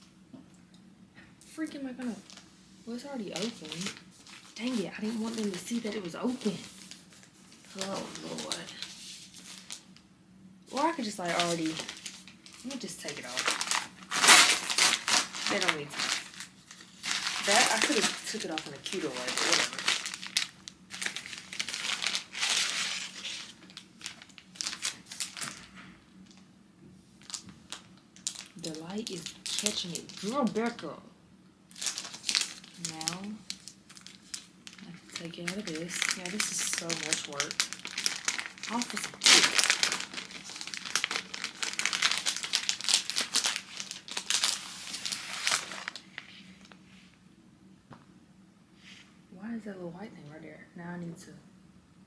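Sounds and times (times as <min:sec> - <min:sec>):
plastic packaging crinkling: 0:02.0 - 0:10.0, 0:10.7 - 0:26.4, 0:27.2 - 0:30.8, 0:31.7 - 0:46.8.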